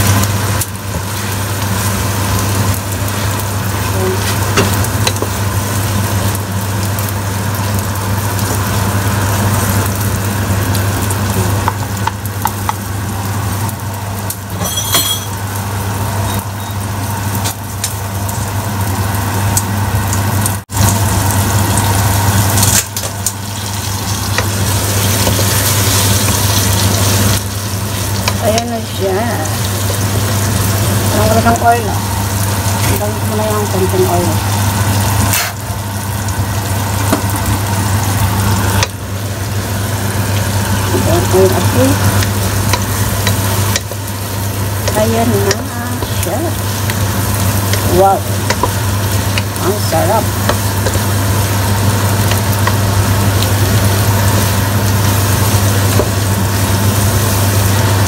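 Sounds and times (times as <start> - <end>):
food sizzling in a pot: 0.0 - 58.0.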